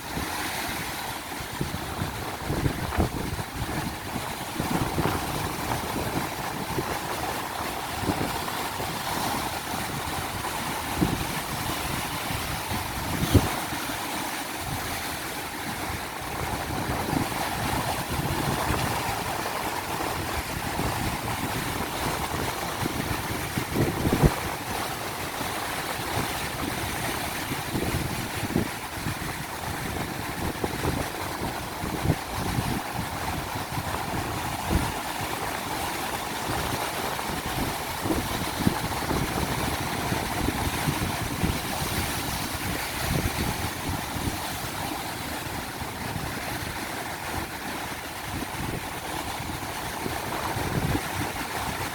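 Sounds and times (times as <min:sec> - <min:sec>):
ocean surf breaking: 0:00.0 - 0:51.9
strong wind: 0:00.0 - 0:51.9
wind buffeting microphone: 0:00.0 - 0:51.9.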